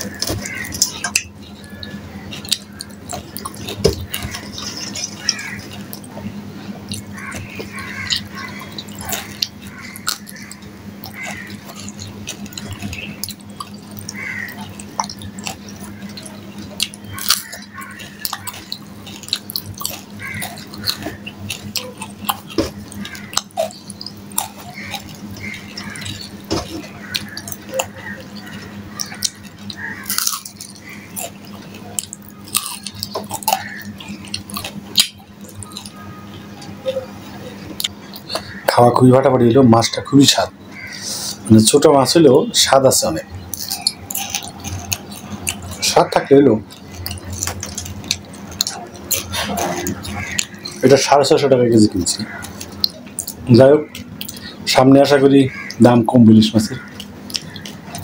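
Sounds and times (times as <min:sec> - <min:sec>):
person chewing and smacking: 0:00.0 - 0:58.0
steady low hum: 0:00.0 - 0:58.0.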